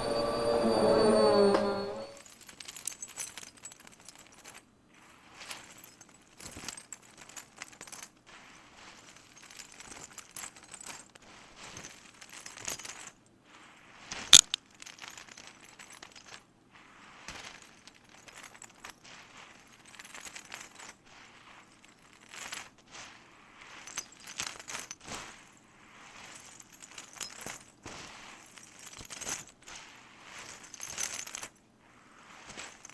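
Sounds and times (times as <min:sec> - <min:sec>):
small hard objects rattling: 0:05.2 - 0:32.9.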